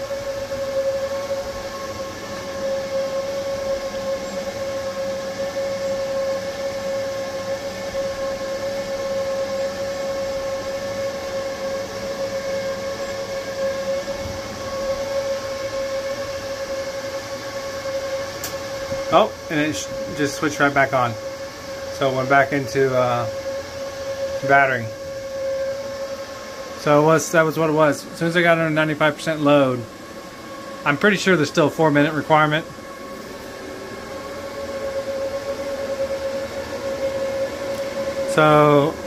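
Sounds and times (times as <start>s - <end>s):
constant high whine: 0.0s - 39.0s
cooling fans rushing: 0.0s - 39.0s.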